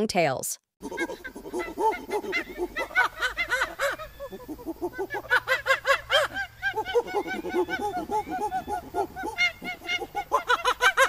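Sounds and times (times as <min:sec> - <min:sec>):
monkey chattering: 0:00.8 - 0:11.0.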